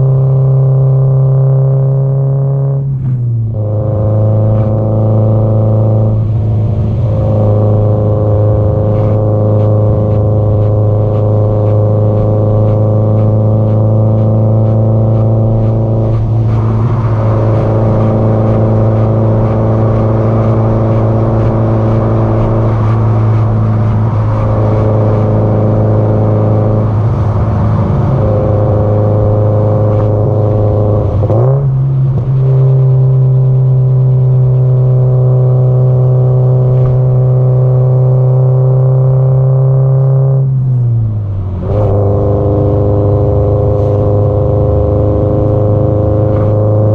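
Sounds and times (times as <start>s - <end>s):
car exhaust note: 0.0s - 46.9s.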